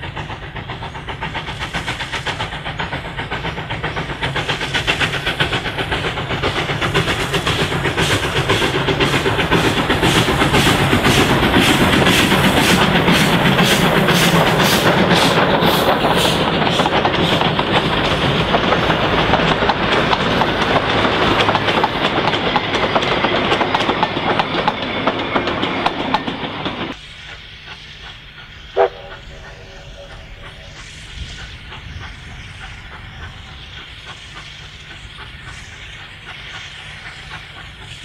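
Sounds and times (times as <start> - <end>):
distant train: 0.0 - 38.0
steam locomotive exhaust beating: 0.0 - 38.0
wheels clattering over rail joints: 0.0 - 38.0.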